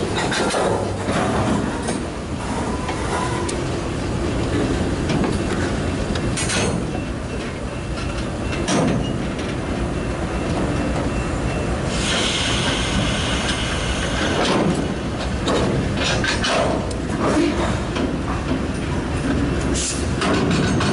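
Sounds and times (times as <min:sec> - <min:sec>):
wheels clunking over rail joints: 0:00.0 - 0:12.3, 0:13.5 - 0:20.9
freight cars rumbling: 0:00.0 - 0:20.9.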